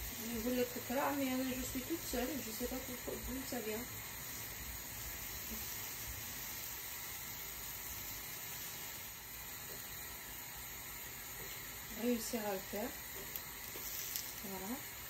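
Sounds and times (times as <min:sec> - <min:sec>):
dough hissing on a hot pan: 0:00.0 - 0:15.0.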